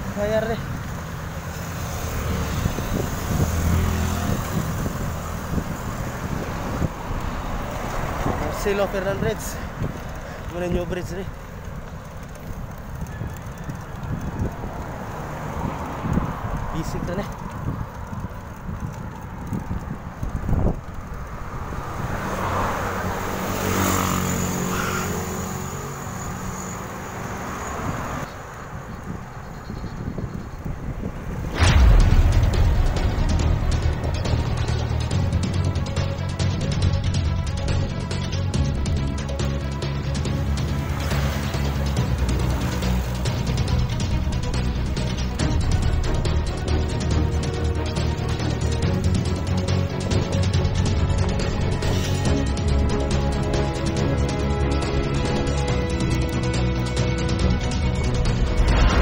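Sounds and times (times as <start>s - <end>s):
steady rushing noise: 0.0s - 59.0s
vehicle engine hum: 0.0s - 59.0s.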